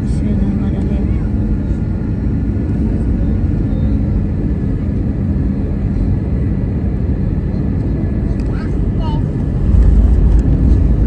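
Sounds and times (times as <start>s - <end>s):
jet engine noise: 0.0s - 11.0s
wheels rumbling on runway: 0.0s - 11.0s.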